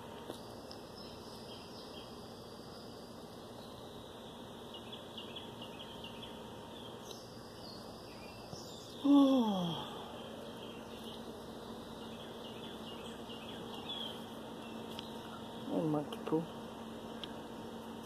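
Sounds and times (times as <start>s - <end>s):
faint outdoor chirping: 0.0s - 18.0s.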